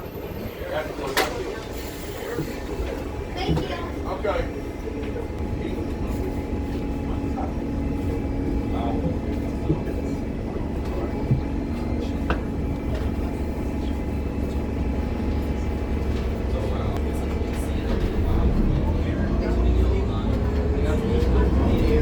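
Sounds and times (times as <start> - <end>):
bus engine rumble and hum: 0.0 - 22.0.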